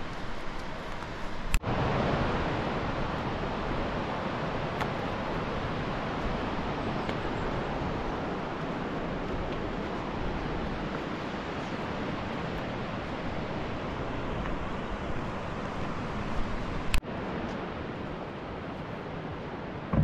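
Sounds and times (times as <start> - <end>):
rushing river: 0.0 - 20.0.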